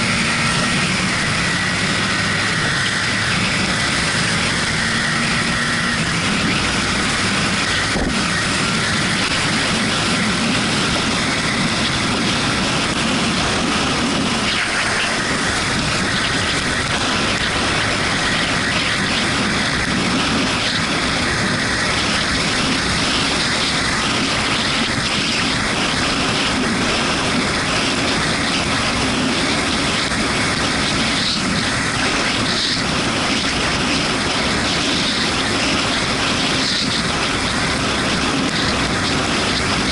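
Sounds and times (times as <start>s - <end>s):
motorcycle engine running: 0.0s - 39.9s
tyres on wet road: 0.0s - 39.9s
wind noise: 0.0s - 39.9s.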